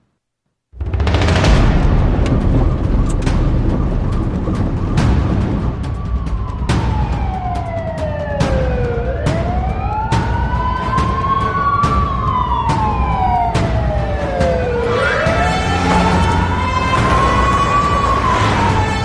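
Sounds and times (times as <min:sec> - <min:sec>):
low vehicle rumble: 0:00.8 - 0:19.0
police siren wailing: 0:02.5 - 0:19.0.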